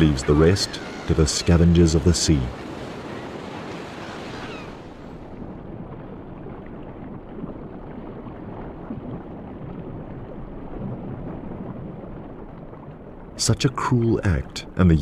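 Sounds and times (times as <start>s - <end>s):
muffled rumbling sea water: 0.0s - 15.0s.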